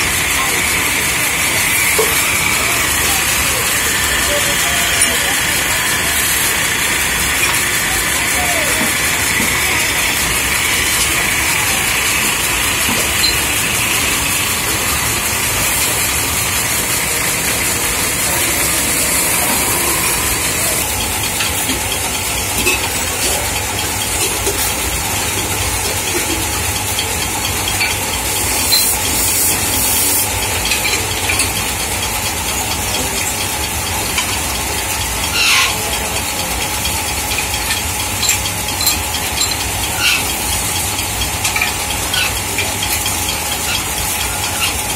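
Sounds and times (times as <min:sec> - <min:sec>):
metal-spinning lathes running: 0:00.0 - 0:44.9
tools scraping spinning metal: 0:00.0 - 0:44.9.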